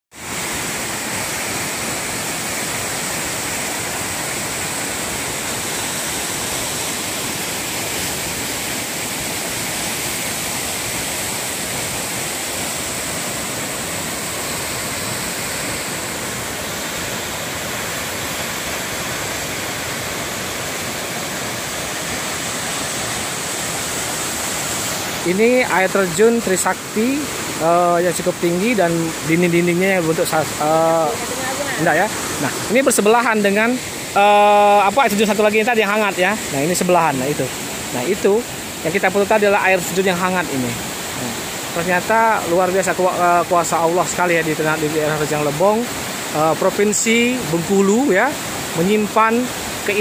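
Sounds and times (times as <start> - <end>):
waterfall roaring: 0.2 - 50.0.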